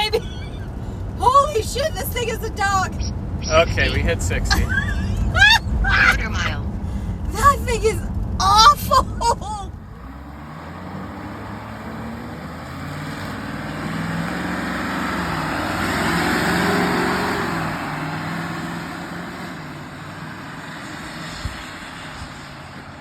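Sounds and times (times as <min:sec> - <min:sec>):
truck engine hum: 0:00.0 - 0:23.0
tyre and road noise: 0:00.0 - 0:23.0.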